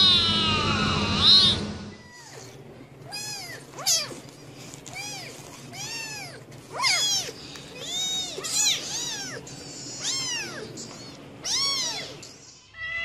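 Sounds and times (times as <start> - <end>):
kittens mewing: 0.0 - 13.0.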